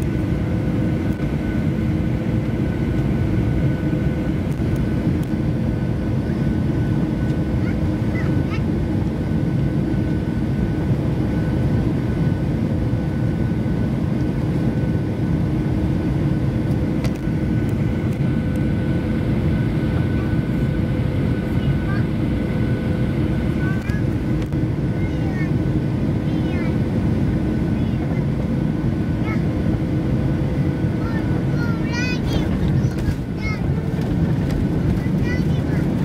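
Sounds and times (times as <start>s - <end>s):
airplane cabin roar: 0.0s - 36.0s.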